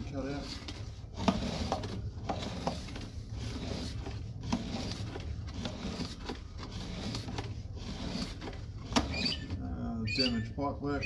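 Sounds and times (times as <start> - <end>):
rod rubbing and scraping in pipe: 0.0 - 11.0.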